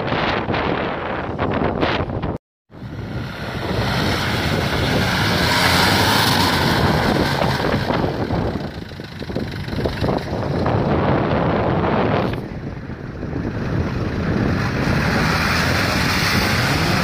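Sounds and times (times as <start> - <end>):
wind buffeting microphone: 0.0 - 17.0
vehicle engine under load: 2.7 - 17.0.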